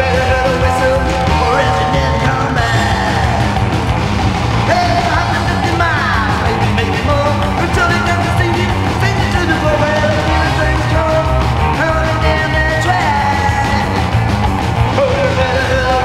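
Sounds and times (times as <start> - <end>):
loud rock song: 0.0 - 16.0.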